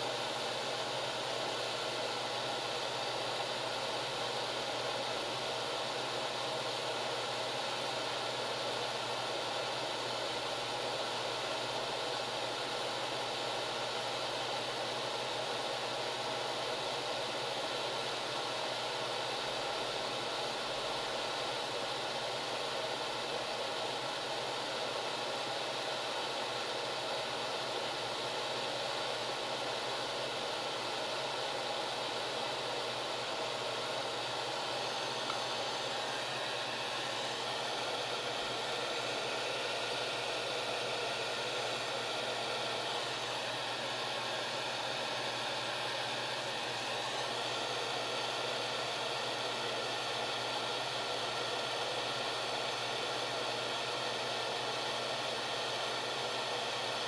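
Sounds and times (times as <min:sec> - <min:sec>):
hot-air gun fan blowing: 0:00.0 - 0:57.0.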